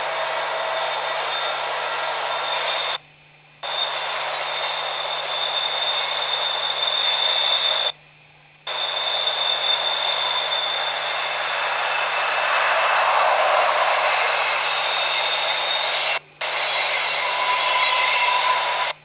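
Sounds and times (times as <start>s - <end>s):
train wheels rolling on rail: 0.0s - 3.0s, 3.6s - 7.9s, 8.7s - 19.0s
high whine: 0.0s - 19.0s.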